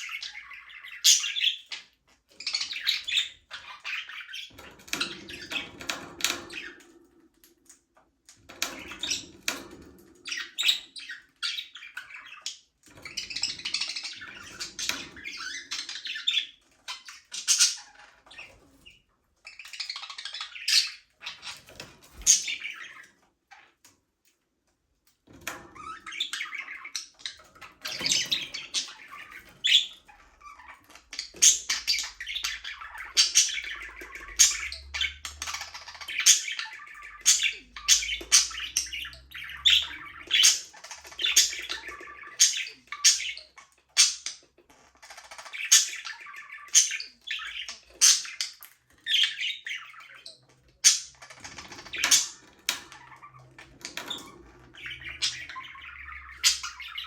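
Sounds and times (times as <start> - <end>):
budgerigars chirping and chattering: 0.0 - 24.2, 25.2 - 57.0.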